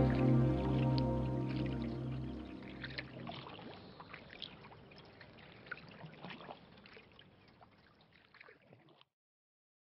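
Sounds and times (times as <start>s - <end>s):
water lapping and trickling: 0.0s - 9.2s
small water splashes: 0.8s - 9.1s.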